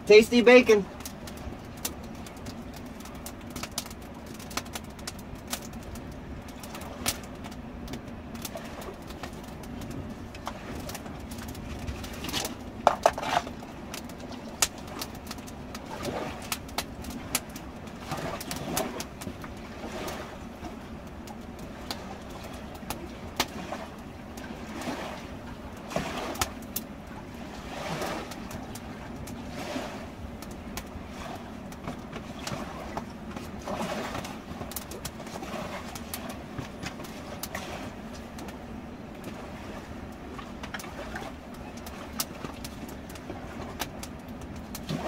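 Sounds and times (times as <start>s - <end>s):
campfire crackling and popping: 0.0s - 39.4s, 40.1s - 45.0s.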